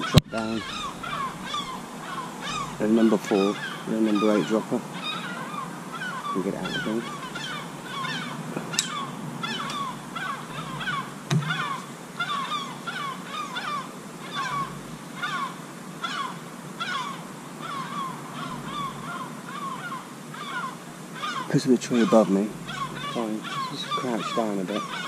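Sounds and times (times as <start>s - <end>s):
birds harsh falling calls: 0.0s - 25.0s.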